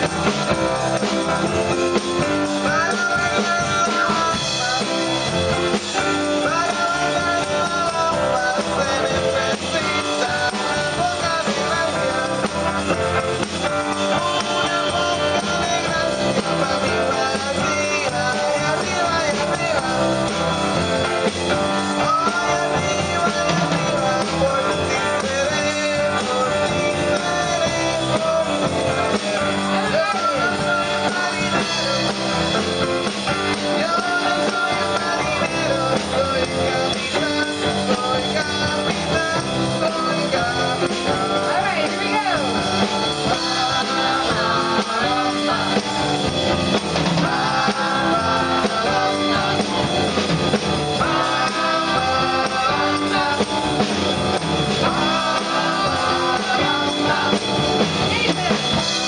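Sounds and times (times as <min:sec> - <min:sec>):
drum kit: 0:00.0 - 0:59.0
people singing: 0:00.0 - 0:59.0
rock band playing: 0:00.0 - 0:59.0.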